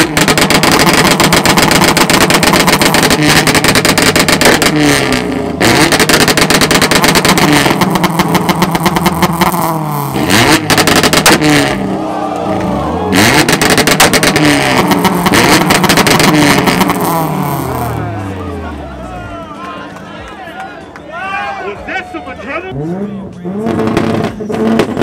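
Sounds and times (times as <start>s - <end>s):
car engine revving: 0.0s - 19.6s, 22.6s - 25.0s.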